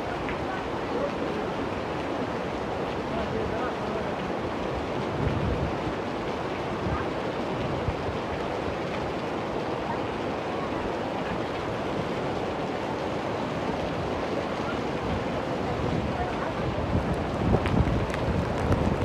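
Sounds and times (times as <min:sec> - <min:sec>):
floodwater rushing: 0:00.0 - 0:19.0
heavy rain falling: 0:00.0 - 0:19.0.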